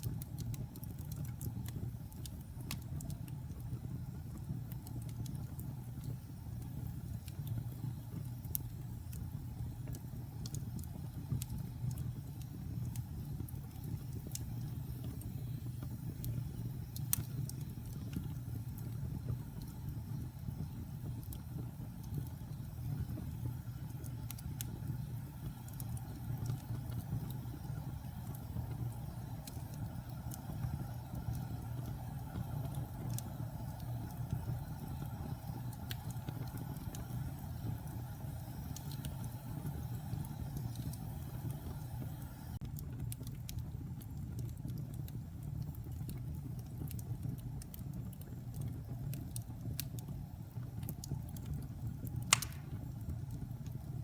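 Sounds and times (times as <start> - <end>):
fire flames rumbling: 0.0 - 54.0
wood crackling and popping: 0.0 - 54.0.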